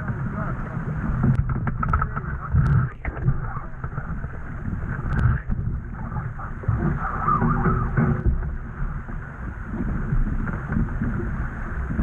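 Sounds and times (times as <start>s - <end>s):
water rushing along hull: 0.0s - 12.0s
wind buffeting microphone: 0.0s - 12.0s.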